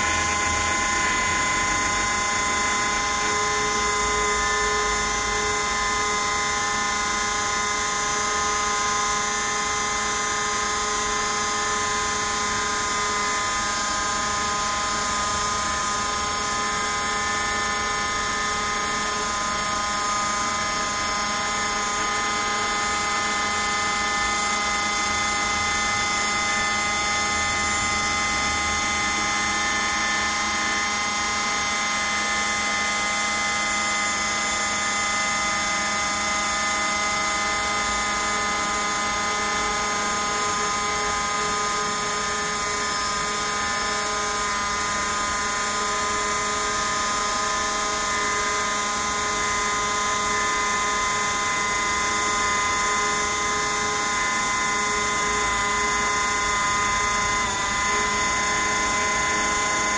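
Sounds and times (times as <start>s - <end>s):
router spindle whining cutting foam: 0.0s - 59.9s.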